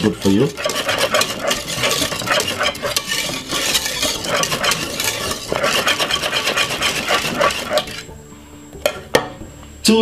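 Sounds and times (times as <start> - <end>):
whisk scraping a pot: 0.0 - 8.1.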